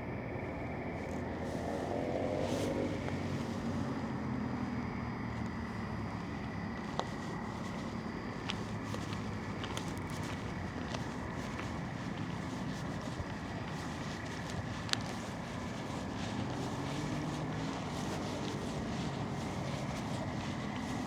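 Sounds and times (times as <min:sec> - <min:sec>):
low hum of traffic: 0:00.0 - 0:21.0
vehicle passing: 0:00.6 - 0:21.0.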